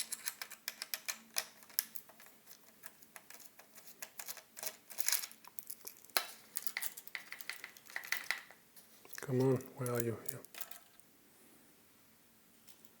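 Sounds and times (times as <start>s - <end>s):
plastic and metal parts clicking: 0.0s - 11.0s.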